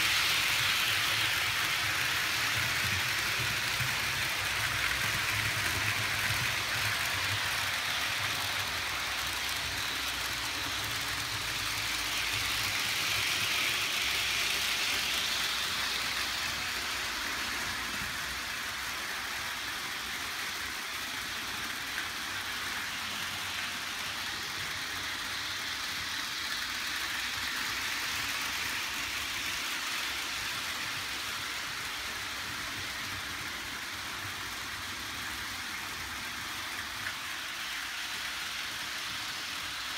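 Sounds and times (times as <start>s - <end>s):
model trains running on track: 0.0s - 39.9s.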